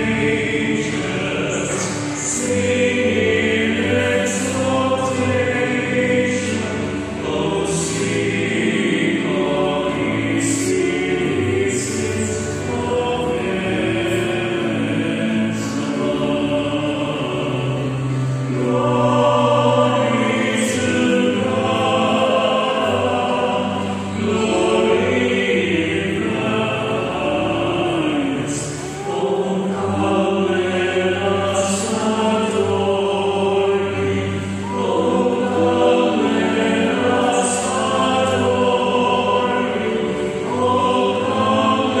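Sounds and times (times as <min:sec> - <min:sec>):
church choir singing a hymn: 0:00.0 - 0:42.0.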